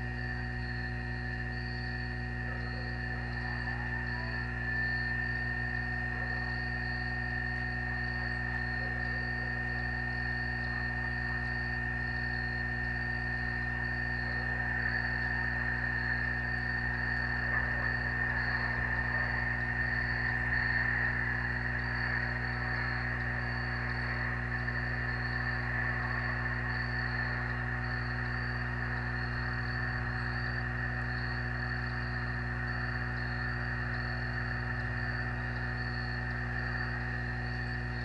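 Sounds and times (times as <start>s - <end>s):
constant low hum: 0.0s - 38.0s
insect chorus trilling: 0.0s - 38.0s.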